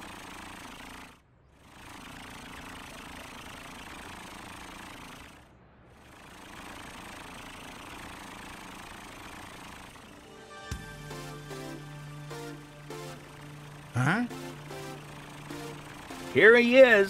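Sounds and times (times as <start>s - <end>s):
cartoon truck engine: 0.0s - 17.0s.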